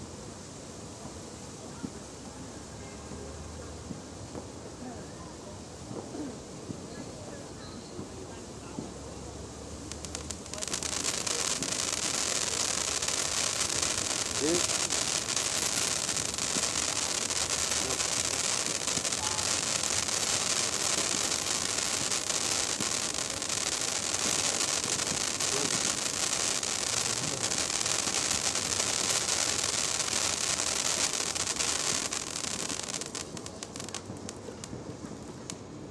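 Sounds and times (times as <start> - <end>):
firework fountain hissing: 0.0 - 35.9.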